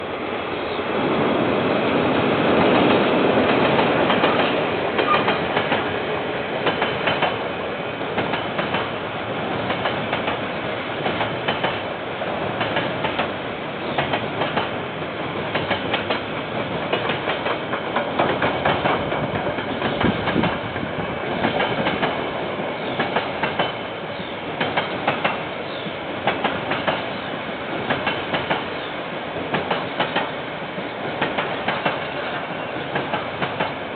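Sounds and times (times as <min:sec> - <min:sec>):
train wheels clattering over rails: 0:01.0 - 0:30.4, 0:31.0 - 0:33.9.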